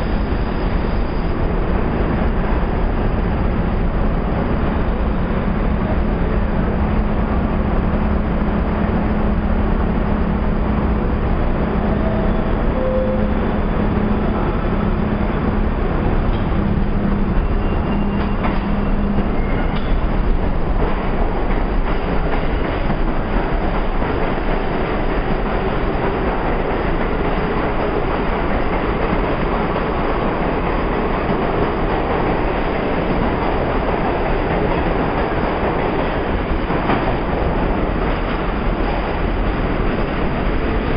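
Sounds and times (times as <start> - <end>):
subway train rumbling past: 0.0 - 40.9.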